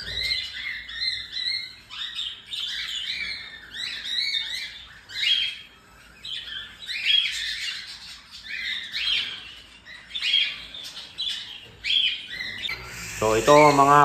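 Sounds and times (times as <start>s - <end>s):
baby cockatiels chirping: 0.0s - 14.0s.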